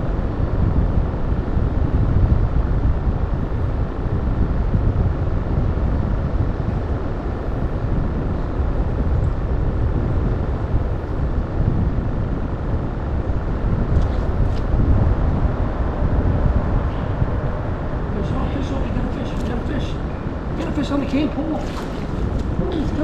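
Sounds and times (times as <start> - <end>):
low rumbling noise: 0.0 - 23.0.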